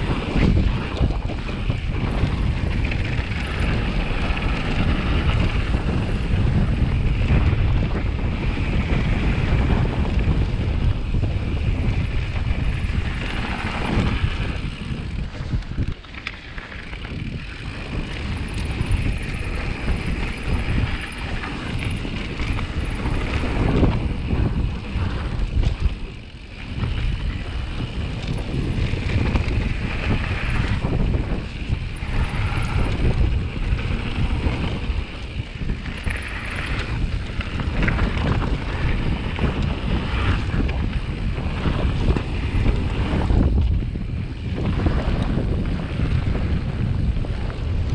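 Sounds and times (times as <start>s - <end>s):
tyres rumbling on gravel: 0.0s - 47.9s
wind over microphone: 0.0s - 47.9s.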